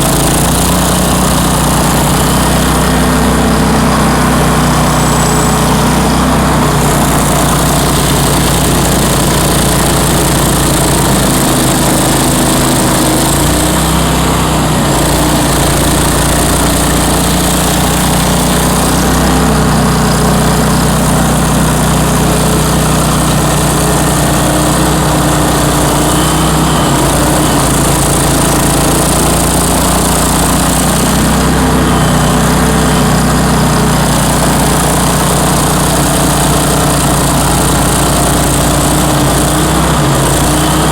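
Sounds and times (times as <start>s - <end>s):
stump grinder engine running: 0.0s - 40.9s.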